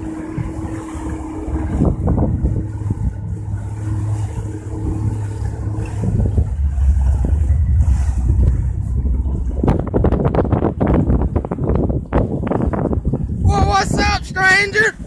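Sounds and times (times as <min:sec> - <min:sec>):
boat hull thumping on waves: 0:00.0 - 0:14.9
outboard motor humming: 0:00.0 - 0:15.0
wind buffeting microphone: 0:00.0 - 0:15.0.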